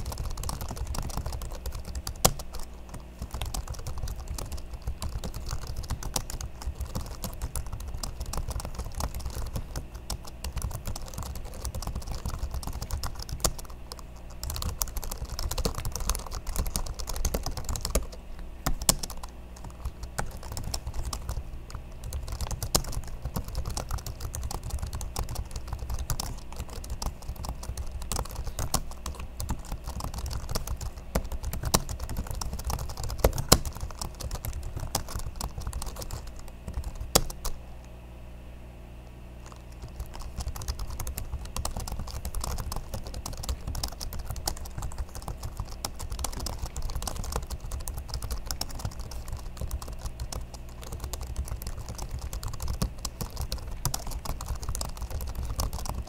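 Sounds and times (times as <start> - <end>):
fast typing on laptop keyboard: 0.0 - 37.6, 39.4 - 56.0.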